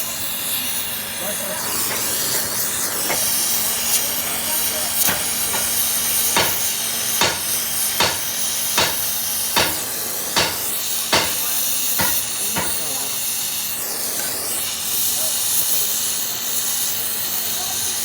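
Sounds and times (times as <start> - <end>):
gas torch hissing: 0.0 - 18.0.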